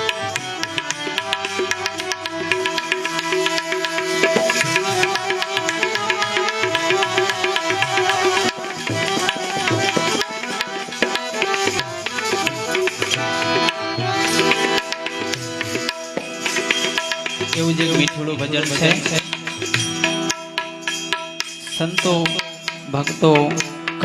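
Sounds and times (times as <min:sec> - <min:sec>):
held melody notes: 0:00.0 - 0:24.0
tabla playing a busy rhythm: 0:00.0 - 0:24.0.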